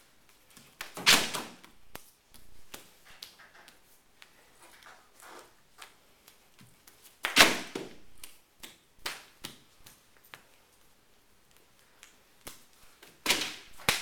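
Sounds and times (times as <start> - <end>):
paper rustling and slapping: 0.2 - 10.6, 11.6 - 14.0.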